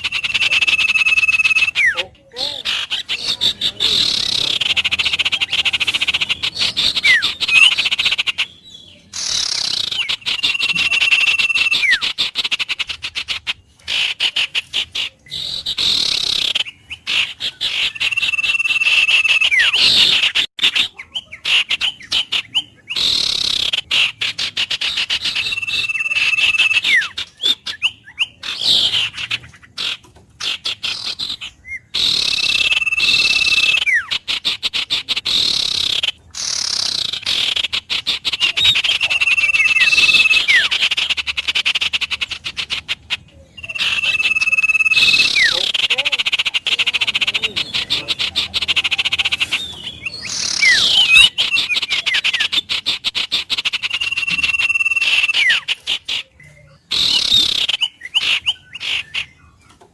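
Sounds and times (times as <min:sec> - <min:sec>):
birds calling: 0:00.0 - 0:59.9
rapid pulsing calls: 0:00.0 - 0:59.9.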